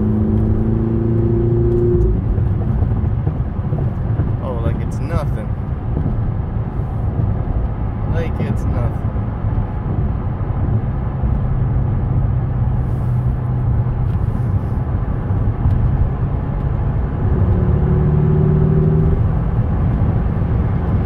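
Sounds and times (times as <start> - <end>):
car engine from inside cabin: 0.0 - 21.0
road noise: 0.0 - 21.0.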